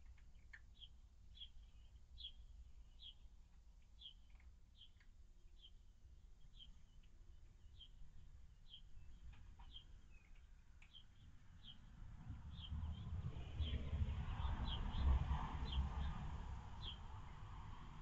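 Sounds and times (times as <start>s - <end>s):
small bird chirping: 0.0s - 16.2s, 16.8s - 17.1s.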